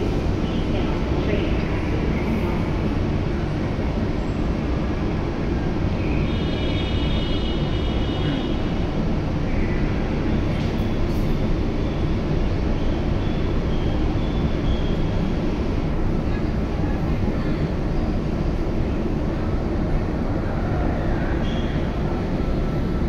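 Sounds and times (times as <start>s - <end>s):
train air-conditioning hum: 0.0s - 23.0s.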